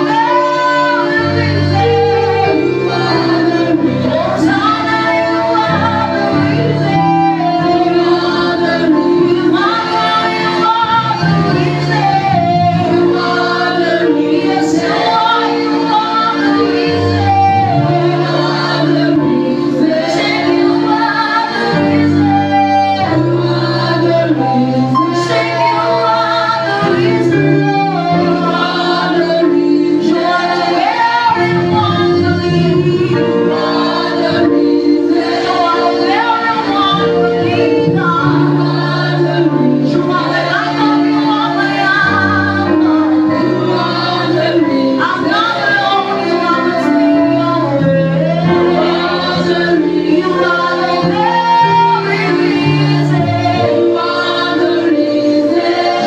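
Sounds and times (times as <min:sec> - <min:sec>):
group singing gospel song: 0:00.0 - 0:56.0
instrumental backing: 0:00.0 - 0:56.0.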